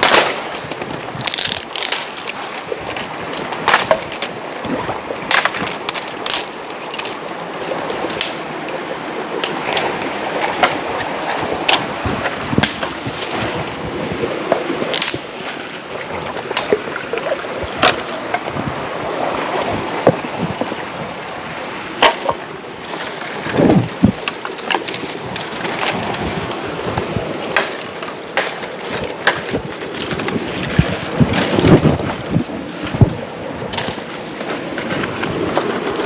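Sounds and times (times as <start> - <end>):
rushing river water: 0.0 - 36.0.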